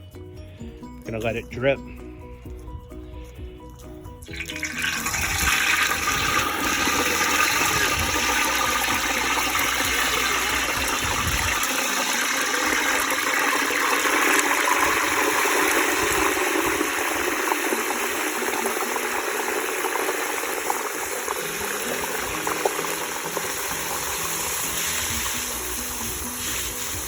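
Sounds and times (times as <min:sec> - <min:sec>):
hot oil sizzling and bubbling: 0:04.3 - 0:27.0.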